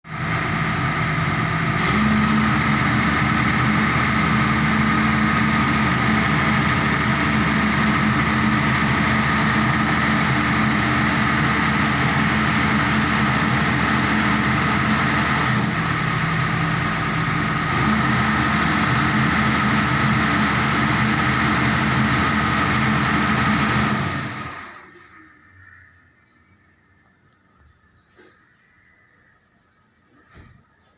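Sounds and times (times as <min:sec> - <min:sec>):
excavator engine idling: 0:00.1 - 0:26.4.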